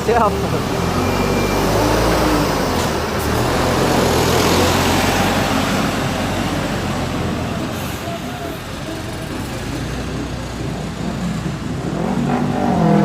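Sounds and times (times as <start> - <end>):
bus engine running: 0.0 - 12.9
traffic noise: 0.0 - 13.0.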